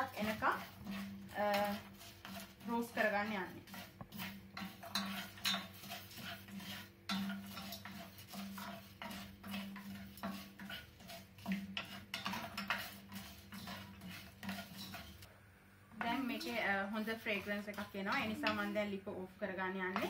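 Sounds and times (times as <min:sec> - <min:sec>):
spatula scraping spices in a pan: 0:00.0 - 0:15.3, 0:15.9 - 0:20.0.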